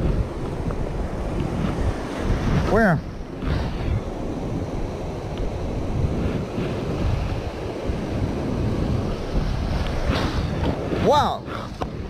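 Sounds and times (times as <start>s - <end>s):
ocean surf washing: 0.0s - 12.0s
wind rumbling on microphone: 0.0s - 12.0s.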